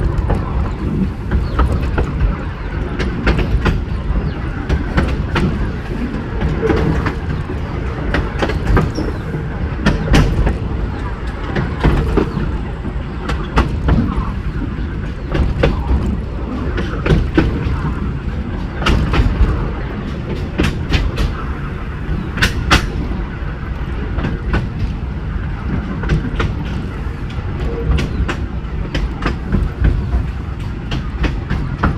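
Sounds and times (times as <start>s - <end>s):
train rumble: 0.0s - 31.9s
wheels clicking over rail joints: 0.0s - 31.9s.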